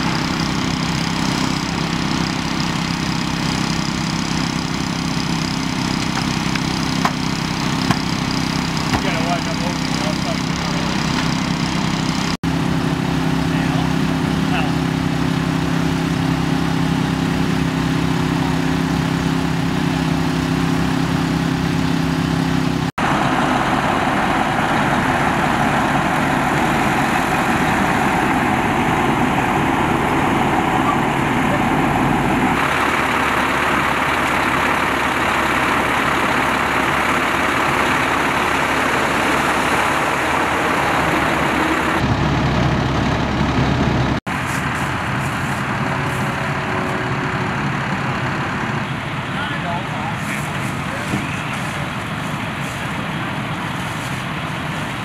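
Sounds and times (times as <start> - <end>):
emergency vehicle engines idling: 0.0 - 55.0
small gasoline engine running: 0.0 - 55.0.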